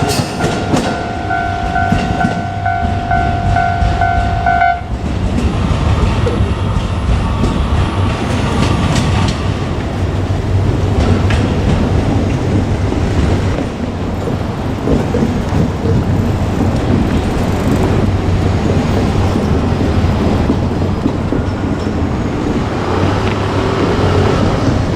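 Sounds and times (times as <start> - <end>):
diesel railcar rumbling past: 0.0 - 24.9.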